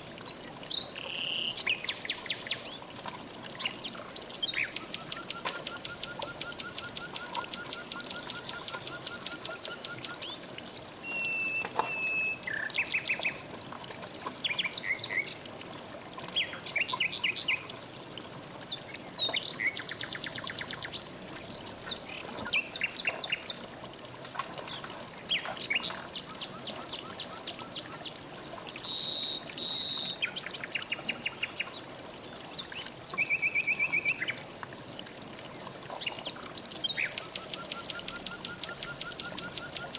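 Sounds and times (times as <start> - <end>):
flowing river water: 0.0 - 39.9
songbirds singing and trilling: 0.2 - 2.8, 3.5 - 10.5, 11.1 - 17.8, 18.7 - 23.6, 24.6 - 28.2, 28.8 - 34.4, 36.0 - 39.9.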